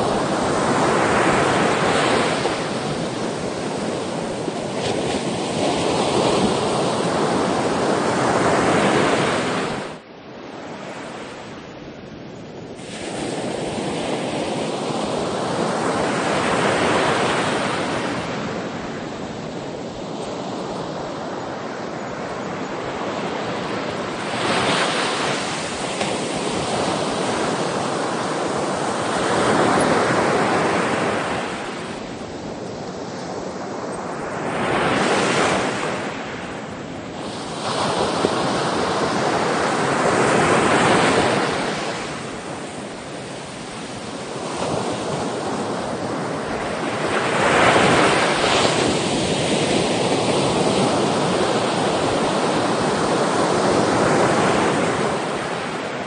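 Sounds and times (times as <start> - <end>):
sea waves breaking on shore: 0.0 - 12.0, 12.6 - 56.0.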